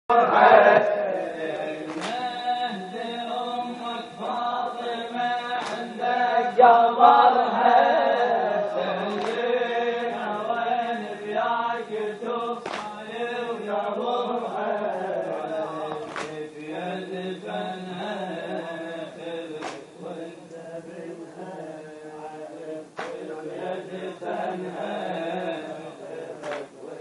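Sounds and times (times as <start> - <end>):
man chanting: 0.1 - 27.0.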